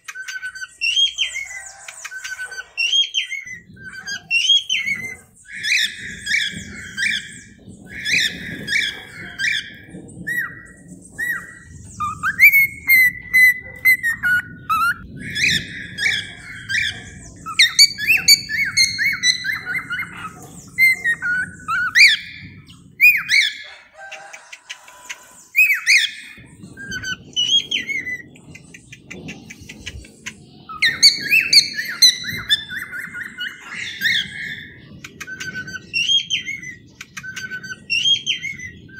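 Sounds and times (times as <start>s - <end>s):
cockatiels chirping and whistling: 0.0s - 38.9s.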